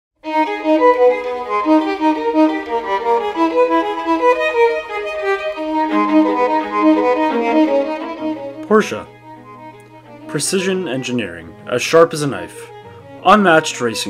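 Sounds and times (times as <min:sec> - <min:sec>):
sustained string notes: 0:00.2 - 0:14.0
violin melody: 0:00.2 - 0:14.0.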